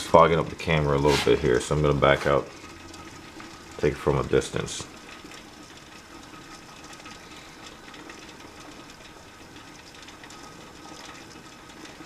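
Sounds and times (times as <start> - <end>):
water boiling with crackling bubbles: 0.0 - 12.0.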